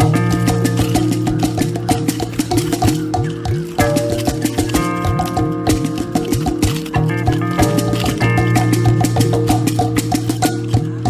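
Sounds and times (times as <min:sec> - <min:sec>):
fast percussion beat: 0:00.0 - 0:11.0
sliding bass line: 0:00.0 - 0:11.0.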